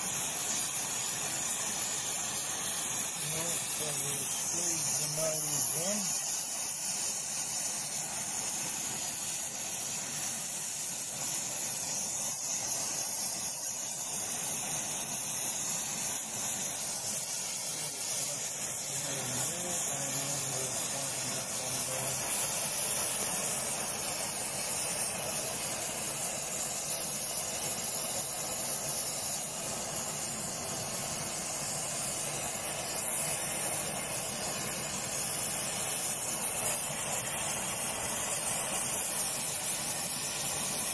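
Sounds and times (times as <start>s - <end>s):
gas torch flame hissing: 0.0s - 40.9s.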